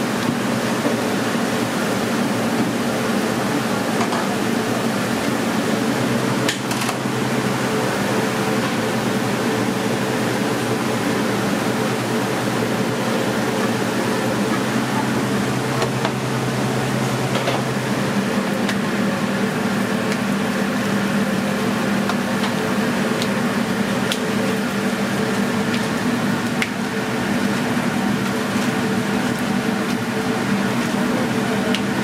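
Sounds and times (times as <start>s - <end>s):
ventilation fan droning: 0.0s - 32.0s.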